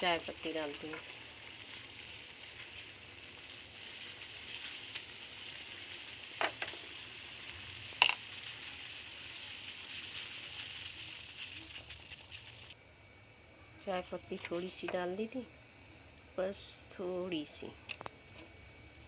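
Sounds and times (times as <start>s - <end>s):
water boiling in a pot: 0.0s - 19.0s.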